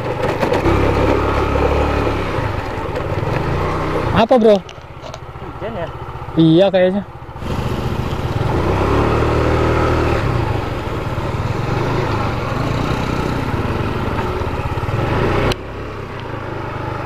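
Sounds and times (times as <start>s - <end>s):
motorcycle engine hum: 0.0s - 17.0s.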